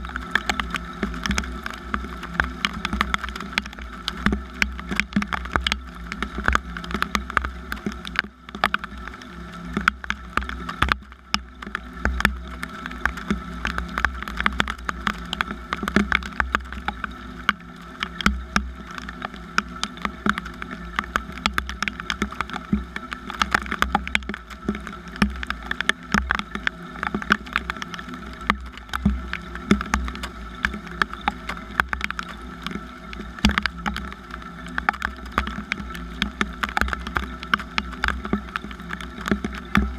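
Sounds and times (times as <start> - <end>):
rain drops clicking: 0.0 - 39.9.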